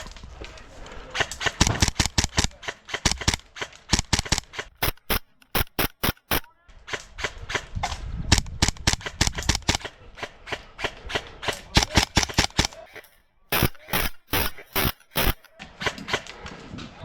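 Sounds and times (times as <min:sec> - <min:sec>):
airsoft guns firing: 0:01.1 - 0:16.5.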